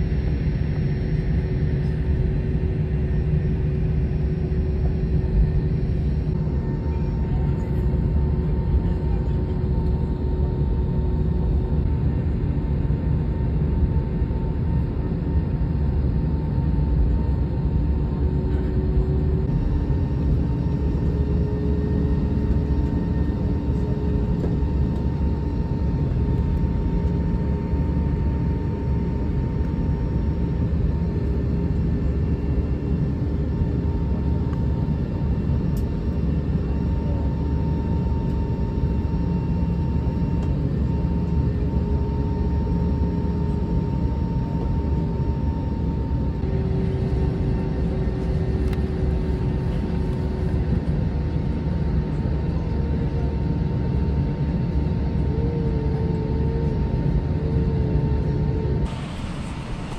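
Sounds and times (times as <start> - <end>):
low rumble of aircraft cabin: 0.0 - 59.9.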